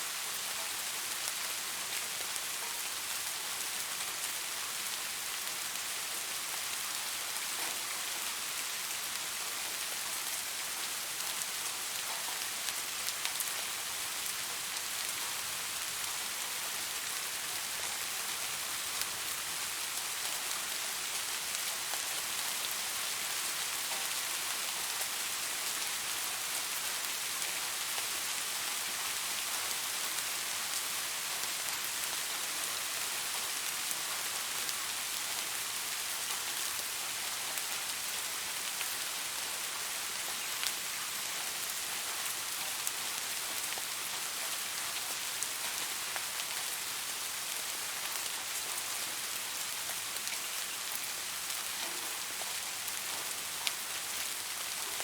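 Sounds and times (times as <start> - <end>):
light rain hiss: 0.0 - 55.0.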